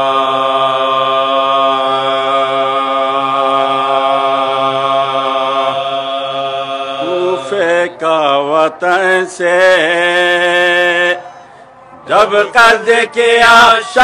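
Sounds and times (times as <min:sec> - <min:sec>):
men chanting a drone note: 0:00.0 - 0:14.0.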